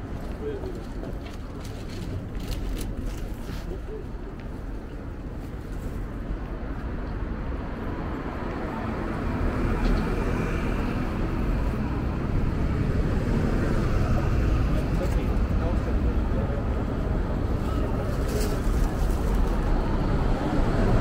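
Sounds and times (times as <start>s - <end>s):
vehicle rumble: 0.0s - 21.0s.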